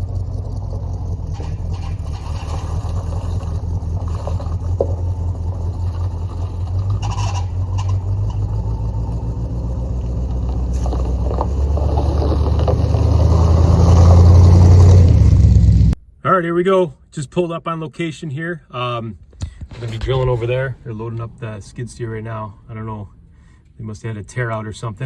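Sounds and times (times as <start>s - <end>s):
truck engine and road noise: 0.0s - 16.0s, 19.2s - 25.0s.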